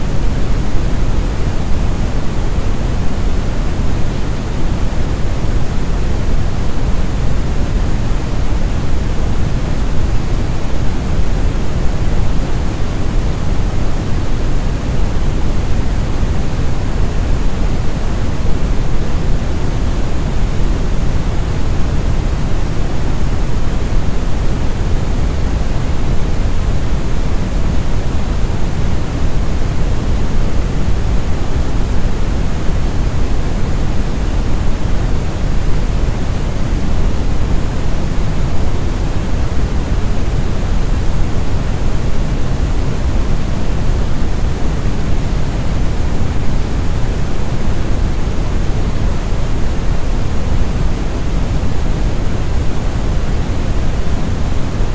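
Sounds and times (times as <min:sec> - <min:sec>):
brown noise: 0:00.0 - 0:54.9.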